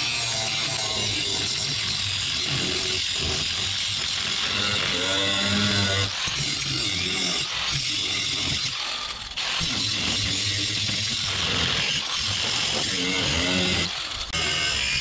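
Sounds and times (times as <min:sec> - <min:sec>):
power tool cutting sheet metal: 0:00.0 - 0:15.0.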